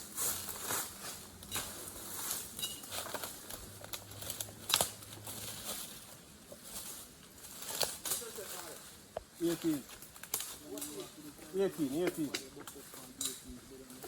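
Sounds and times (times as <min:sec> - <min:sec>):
footsteps through dry leaves: 0:00.0 - 0:12.0.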